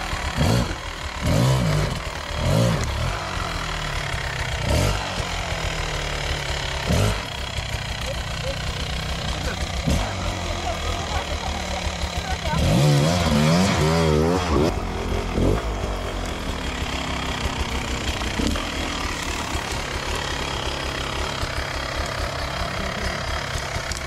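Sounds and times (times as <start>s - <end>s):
two-stroke motorcycle engine: 0.0s - 24.0s.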